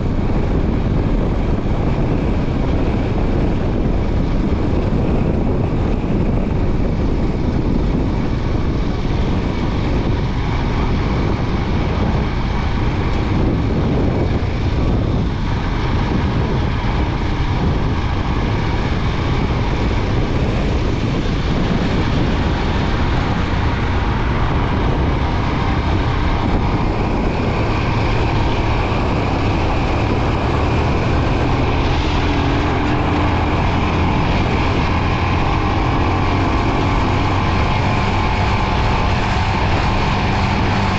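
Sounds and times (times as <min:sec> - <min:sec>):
motorcycle engine running: 0:00.0 - 0:40.9
rushing wind and road noise: 0:00.0 - 0:40.9.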